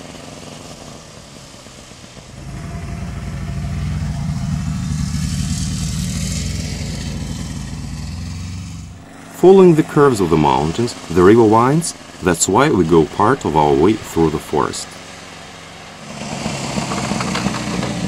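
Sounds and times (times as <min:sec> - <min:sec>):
track hissing on snow: 0:00.0 - 0:13.2, 0:14.6 - 0:18.0
snowmobile engine passing: 0:00.0 - 0:18.0.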